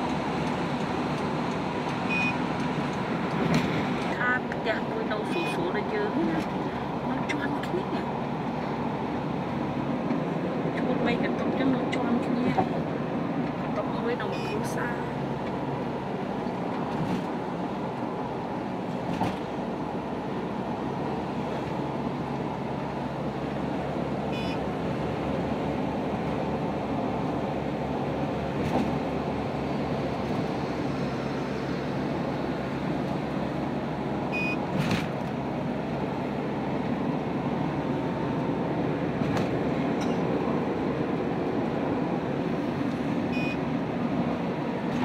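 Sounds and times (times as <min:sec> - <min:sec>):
car road and engine noise: 0:00.0 - 0:45.0.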